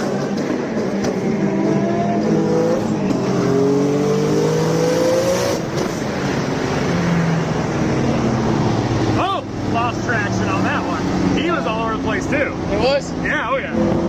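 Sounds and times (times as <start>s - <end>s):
car engine at full throttle: 0.0s - 14.0s.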